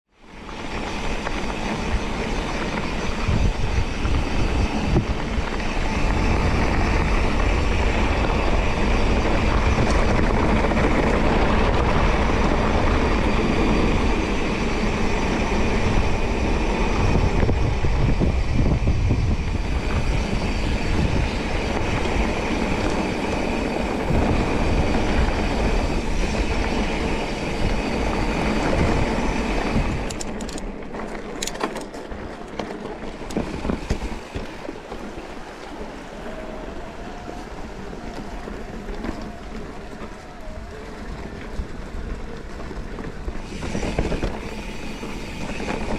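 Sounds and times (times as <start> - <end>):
mountain bike riding on trail: 0.1 - 45.9.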